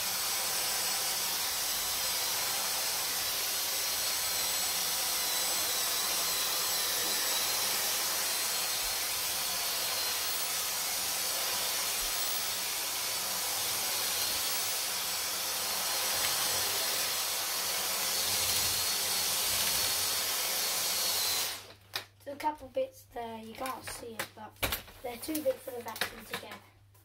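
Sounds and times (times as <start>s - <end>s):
cordless vacuum cleaner running: 0.0s - 21.8s.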